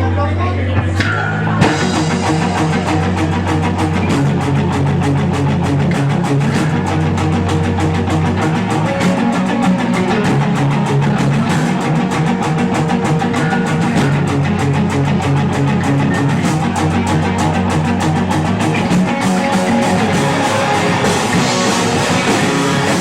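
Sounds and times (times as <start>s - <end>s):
guitars: 0.0s - 23.0s
rock band playing live: 0.0s - 23.0s
fast drum beat: 1.6s - 23.0s.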